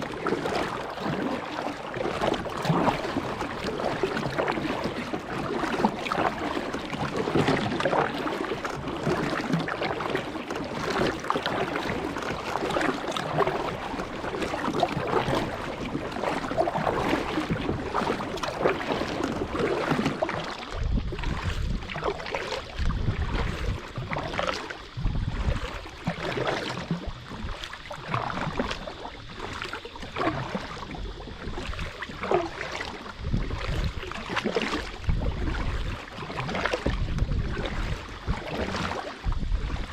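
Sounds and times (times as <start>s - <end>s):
water splashing against kayak: 0.0s - 39.9s.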